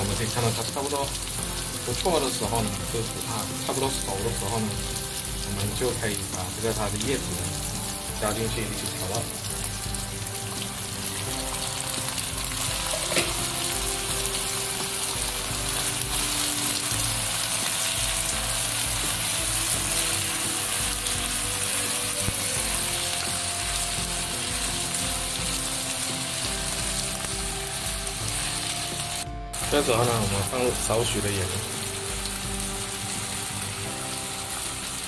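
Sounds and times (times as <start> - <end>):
garlic sizzling in hot oil: 0.0 - 35.0.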